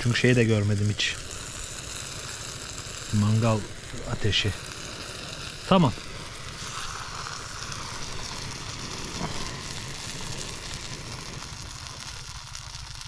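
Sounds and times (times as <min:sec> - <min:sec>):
food sizzling in a frying pan: 0:00.0 - 0:13.0
gas stove burner hissing: 0:00.0 - 0:13.0.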